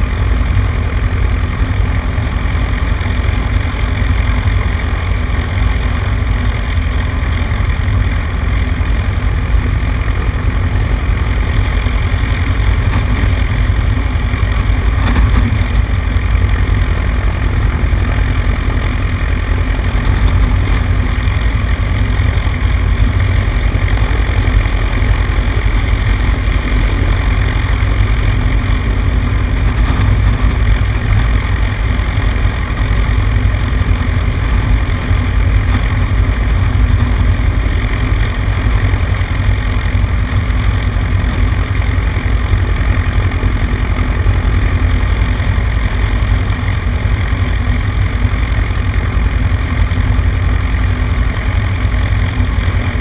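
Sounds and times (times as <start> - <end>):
airplane engine and propeller: 0.0 - 53.0.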